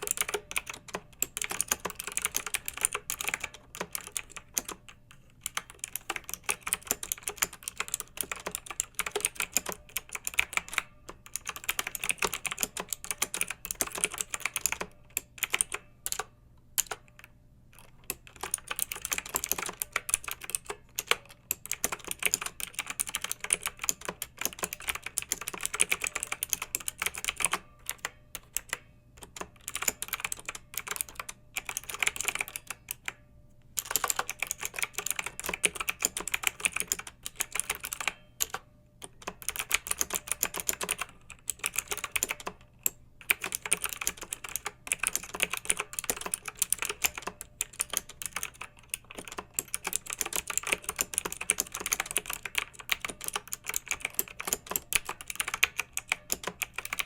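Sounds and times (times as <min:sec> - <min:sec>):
typing on mechanical keyboard: 0:00.0 - 0:33.2, 0:33.8 - 0:57.0.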